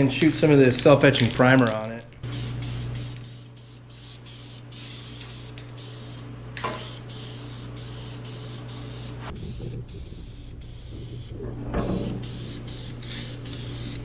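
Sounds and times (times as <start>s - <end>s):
steady low hum: 0.0s - 14.0s
aerosol can spraying: 1.7s - 9.3s, 10.1s - 14.0s.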